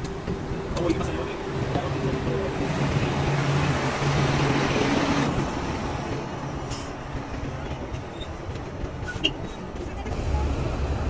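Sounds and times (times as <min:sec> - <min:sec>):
vehicle and road noise: 0:00.0 - 0:11.0.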